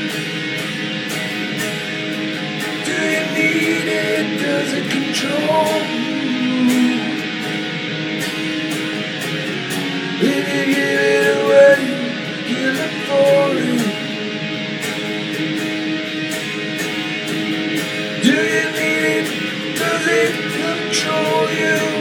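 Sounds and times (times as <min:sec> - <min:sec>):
sliding guitar lead notes: 0:00.0 - 0:22.0
strummed guitar chords: 0:00.0 - 0:22.0.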